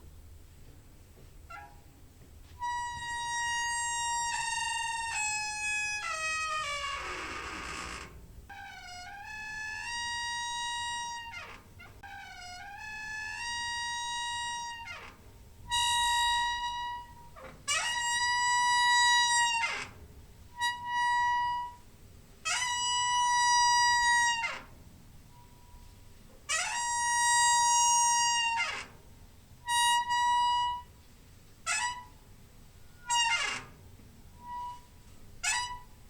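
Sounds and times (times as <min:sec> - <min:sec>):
door hinge squeaking: 0:01.5 - 0:01.9, 0:02.6 - 0:29.0, 0:29.6 - 0:30.9, 0:31.6 - 0:32.2, 0:32.8 - 0:36.0.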